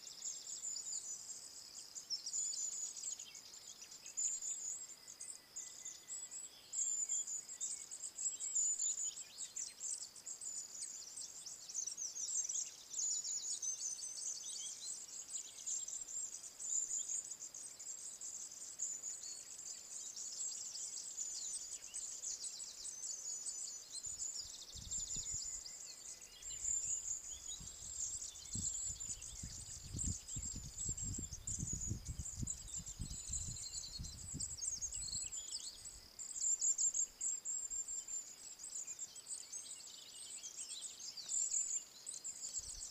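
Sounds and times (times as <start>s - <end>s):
songbirds trilling and chirping: 0.0s - 42.9s
insects chirping: 0.1s - 42.9s.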